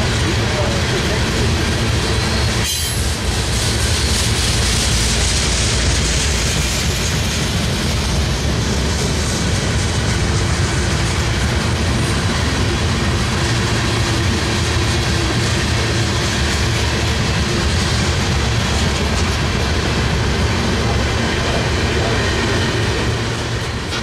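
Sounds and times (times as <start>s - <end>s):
train wheels rolling on rail: 0.0s - 24.0s.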